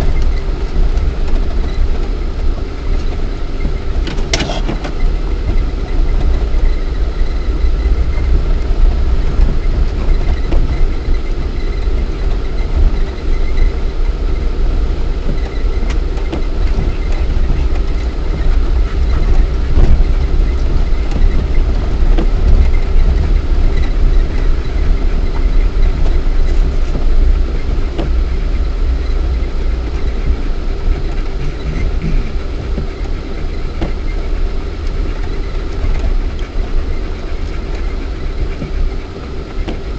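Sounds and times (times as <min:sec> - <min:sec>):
body and suspension rattles: 0:00.0 - 0:39.9
car engine rumbling: 0:00.0 - 0:39.9.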